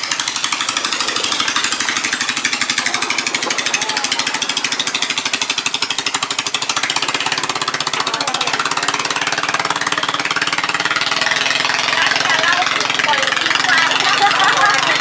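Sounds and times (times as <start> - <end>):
boat engine puttering: 0.0 - 15.0.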